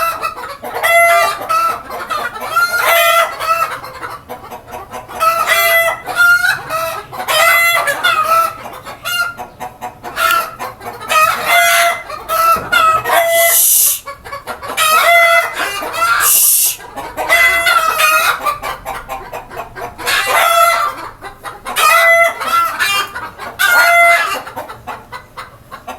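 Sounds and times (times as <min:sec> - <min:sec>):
roosters crowing: 0:00.0 - 0:25.3
chickens clucking: 0:00.0 - 0:25.9.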